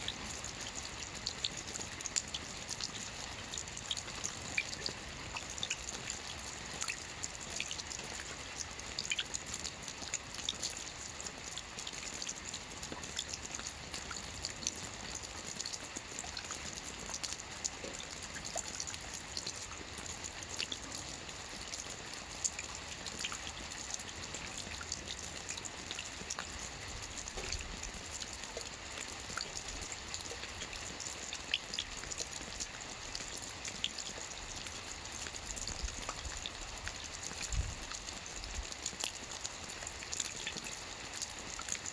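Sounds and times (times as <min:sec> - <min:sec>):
rain on a roof: 0:00.0 - 0:41.9.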